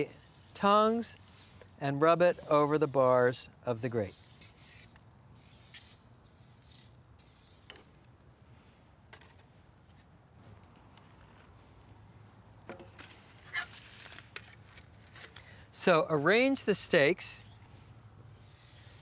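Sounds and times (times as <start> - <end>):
soft hiss: 0.0 - 19.0.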